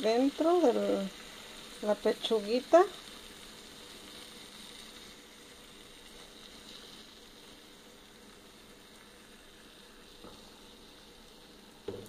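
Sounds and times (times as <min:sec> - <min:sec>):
meat sizzling faintly in a pan: 0:00.0 - 0:12.0.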